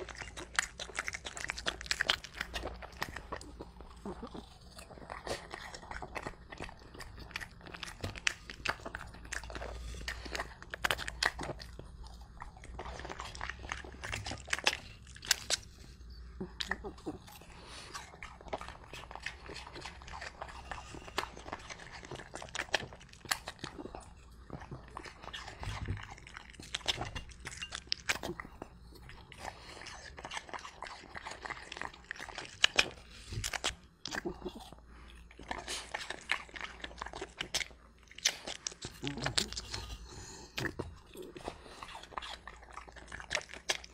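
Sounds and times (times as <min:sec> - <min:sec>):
dog crunching apple: 0:00.0 - 0:43.9.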